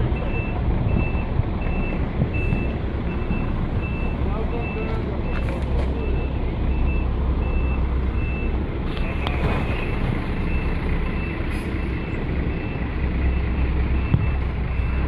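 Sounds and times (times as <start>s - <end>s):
truck engine rumbling: 0.0s - 15.0s
reversing alarm beeping: 0.1s - 15.0s.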